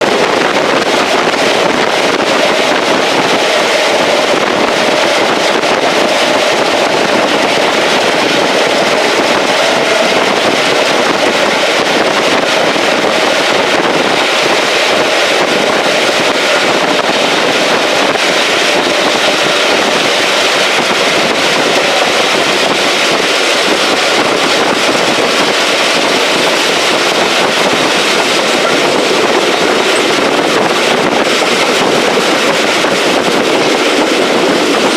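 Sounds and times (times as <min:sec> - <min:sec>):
moving train rushing: 0:00.0 - 0:34.9
wind buffeting microphone: 0:00.0 - 0:34.9.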